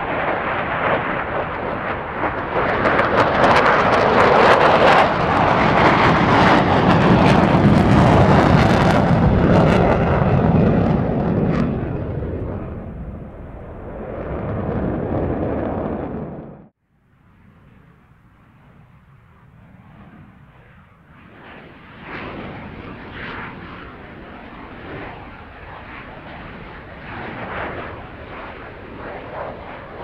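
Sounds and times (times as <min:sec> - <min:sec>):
fighter jet afterburner roar: 0:00.0 - 0:16.8, 0:19.5 - 0:30.0.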